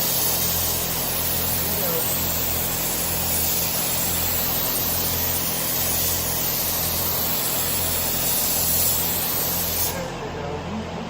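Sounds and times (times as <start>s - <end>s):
spray gun hissing: 0.0s - 10.2s
low machinery hum: 0.0s - 11.0s.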